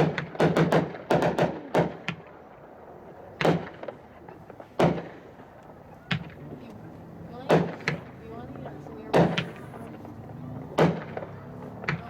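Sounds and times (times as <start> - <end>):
fireworks bangs: 0.0 - 6.6, 7.4 - 12.0.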